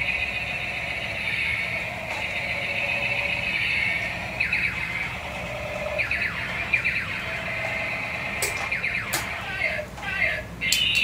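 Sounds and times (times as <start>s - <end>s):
falling-pitch electronic zaps: 0.0s - 9.4s
toy tank electronic whine: 0.0s - 9.8s.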